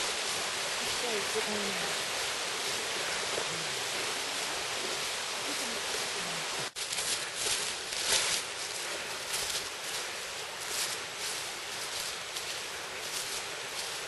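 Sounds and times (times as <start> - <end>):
mountain stream rushing: 0.0 - 14.0
scuffing or rustling: 0.0 - 14.0.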